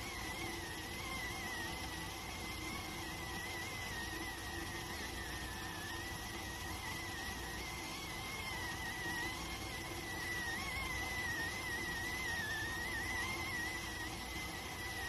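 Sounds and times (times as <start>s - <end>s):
rice cooker whistling: 0.0s - 15.0s.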